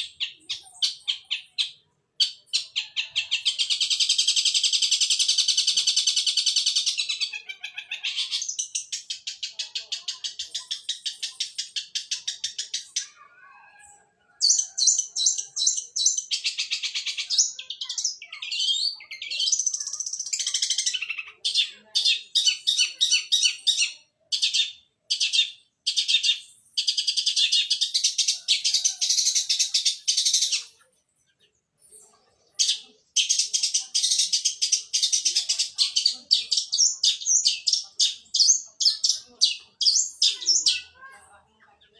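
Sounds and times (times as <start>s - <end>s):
bird rattling chatter song: 0.0s - 13.2s, 14.4s - 30.9s, 31.8s - 41.1s.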